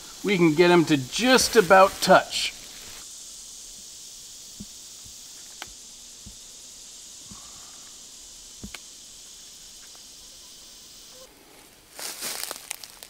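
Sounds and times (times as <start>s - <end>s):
insect hiss: 0.0s - 13.0s.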